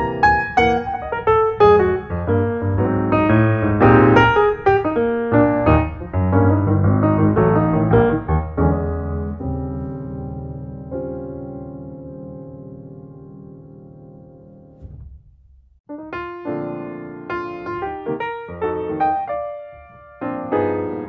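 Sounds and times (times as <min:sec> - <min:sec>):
piano music: 0:00.0 - 0:15.2, 0:15.9 - 0:21.0.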